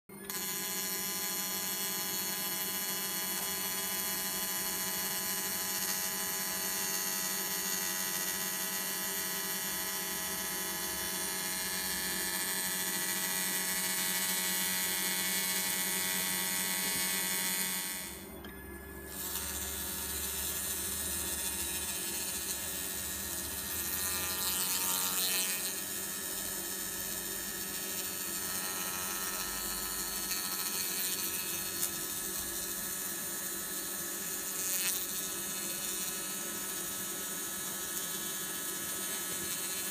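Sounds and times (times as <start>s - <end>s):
laser buzzing on metal: 0.1s - 18.3s, 19.1s - 39.9s.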